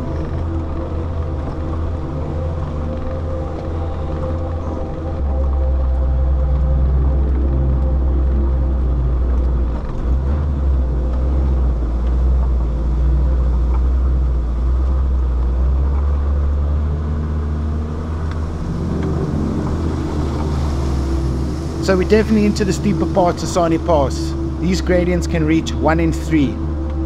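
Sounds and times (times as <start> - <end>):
vehicle engine droning under load: 0.0 - 27.0.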